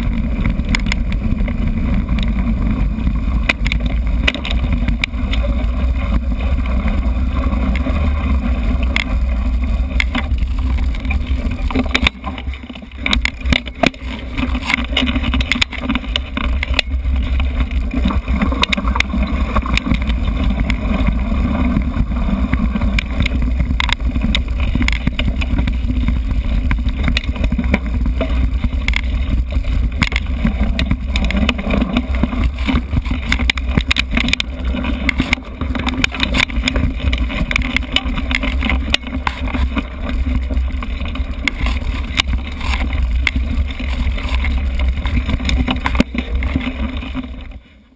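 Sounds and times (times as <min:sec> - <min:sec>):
bike rattling clicks: 0:00.0 - 0:47.6
low rumble of wind and vibration: 0:00.0 - 0:47.9.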